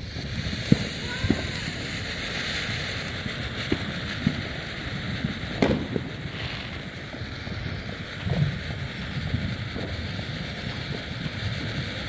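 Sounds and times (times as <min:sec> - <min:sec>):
firework fountain hissing: 0:00.0 - 0:12.0
sharp firework pops: 0:00.0 - 0:12.0.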